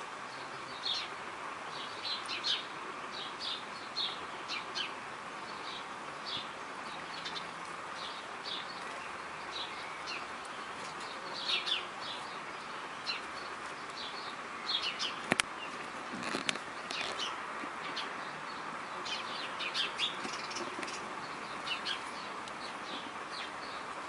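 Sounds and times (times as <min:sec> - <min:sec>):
small birds chirping: 0:00.0 - 0:24.0
steady outdoor hiss: 0:00.0 - 0:24.0.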